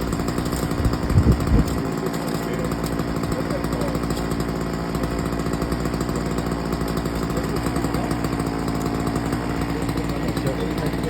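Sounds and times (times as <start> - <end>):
chainsaw running: 0.0 - 11.0.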